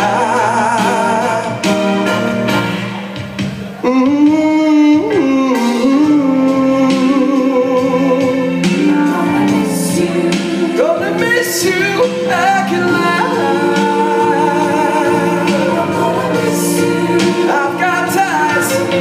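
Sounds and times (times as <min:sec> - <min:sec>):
group singing over music: 0:00.0 - 0:02.9, 0:05.1 - 0:19.0.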